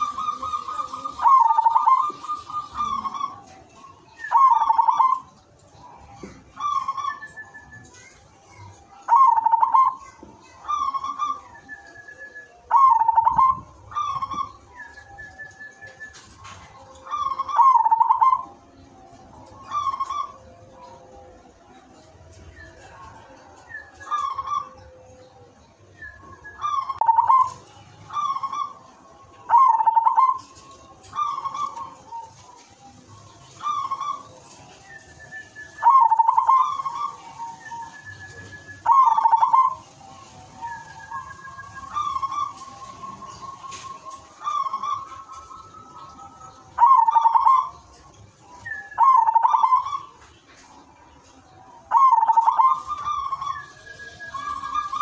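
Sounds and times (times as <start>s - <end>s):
dove cooing: 0.0s - 25.2s, 26.0s - 55.0s.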